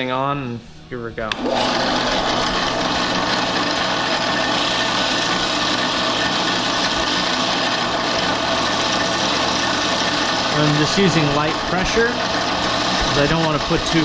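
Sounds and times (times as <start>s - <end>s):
bit grinding metal: 1.3s - 14.0s
drill press motor hum: 1.3s - 14.0s.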